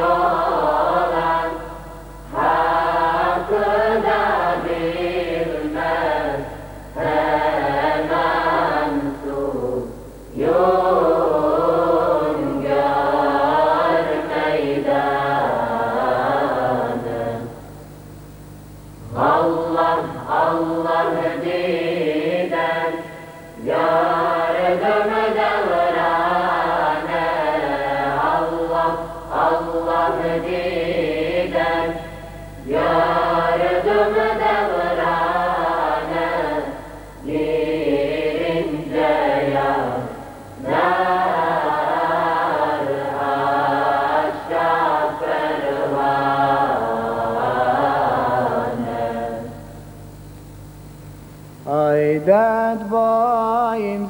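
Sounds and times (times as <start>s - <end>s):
mixed choir singing a hymn: 0.0s - 17.6s, 19.0s - 49.8s.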